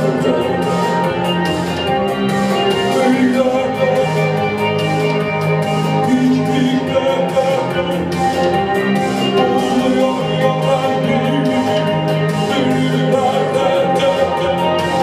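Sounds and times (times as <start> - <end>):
band playing live: 0.0 - 15.0
electric guitar: 0.0 - 15.0
steady beat: 0.0 - 15.0.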